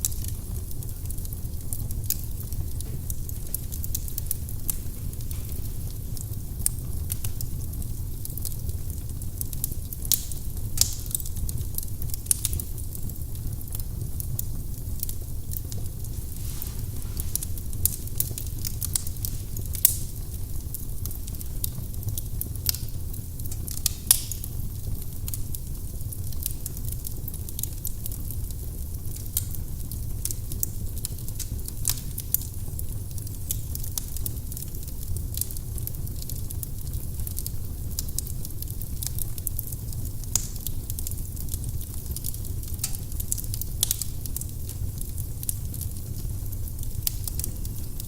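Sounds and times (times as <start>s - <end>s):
firewood crackling and popping: 0.0s - 48.0s
low rumble of flames: 0.0s - 48.0s.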